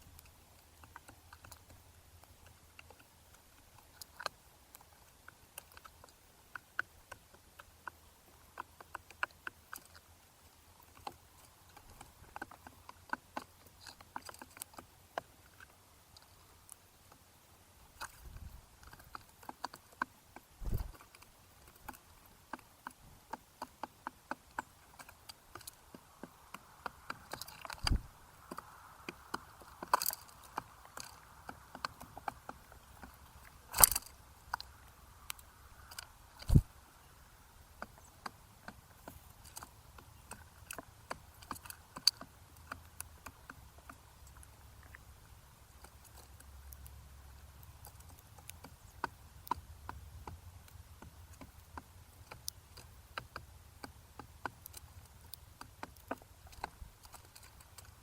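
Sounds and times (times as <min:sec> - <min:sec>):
birds pecking seed: 0:00.0 - 0:58.0.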